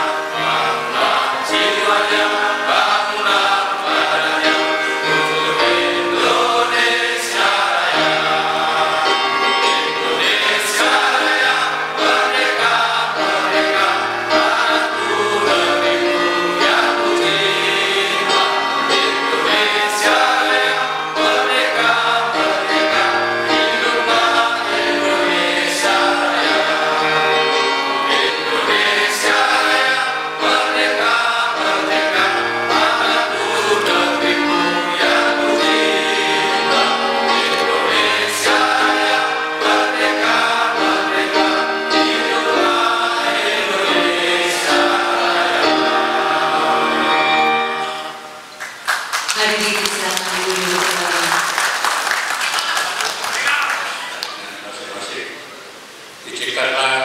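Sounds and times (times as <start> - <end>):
sustained instrumental chords: 0.0 - 48.6
choir singing: 0.0 - 49.6.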